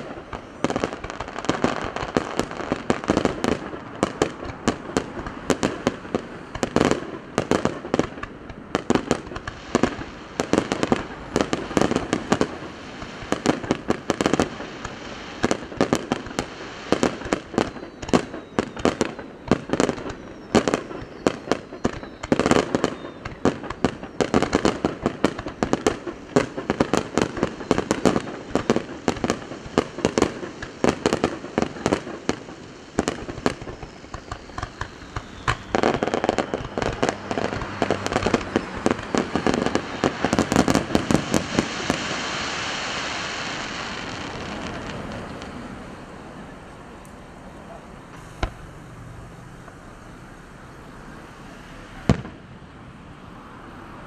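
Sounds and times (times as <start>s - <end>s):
fireworks bangs: 0.0s - 54.0s
fireworks crackle: 0.0s - 54.0s.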